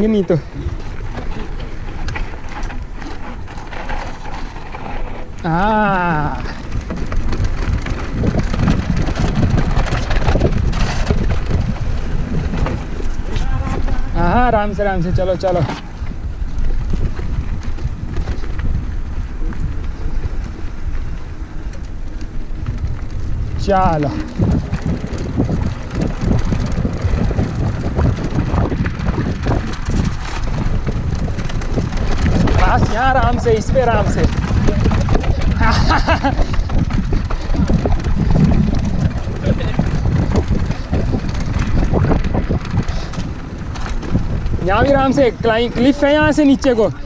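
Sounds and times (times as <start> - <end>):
bike rattling over stony trail: 0.0 - 47.0
wind buffeting microphone: 0.0 - 47.0.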